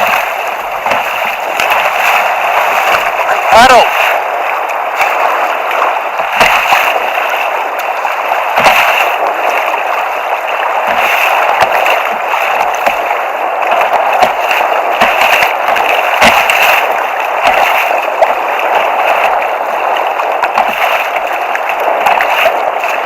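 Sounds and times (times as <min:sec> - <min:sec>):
sea water rushing and splashing: 0:00.0 - 0:23.0.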